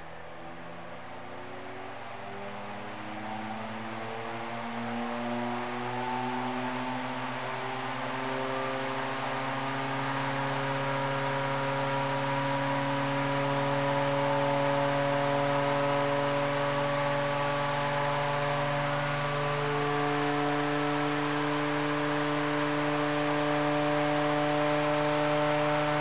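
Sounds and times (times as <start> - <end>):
fan running with rising hum: 0.0 - 26.0.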